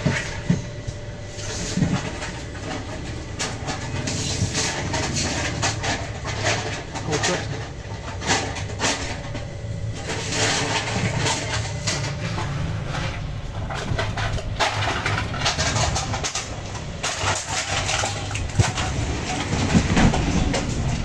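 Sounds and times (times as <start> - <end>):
rustling and scraping: 0.0 - 21.0
vacuum pump motor humming: 0.0 - 21.0.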